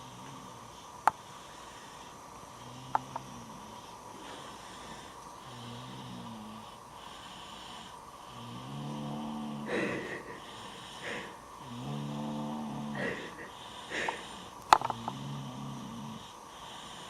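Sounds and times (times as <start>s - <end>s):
breathy puffs: 0.0s - 17.0s
low buzzing snores: 0.0s - 17.0s.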